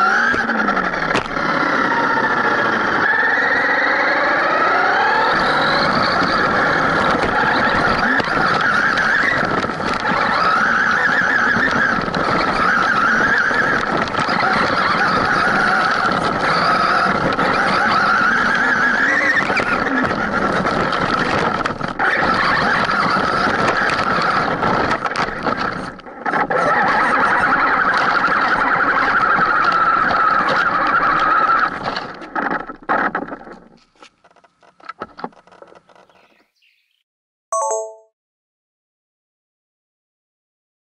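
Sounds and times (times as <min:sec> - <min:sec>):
rc truck motor whining: 0:00.0 - 0:33.7.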